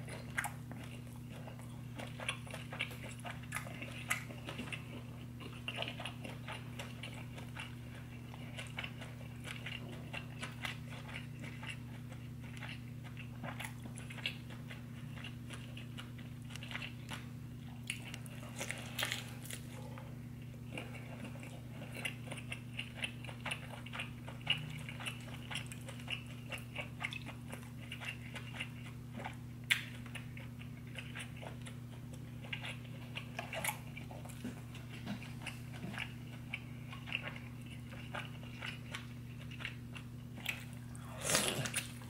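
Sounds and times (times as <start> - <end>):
person chewing with wet smacks: 0.0 - 42.0
steady low hum: 0.0 - 42.0.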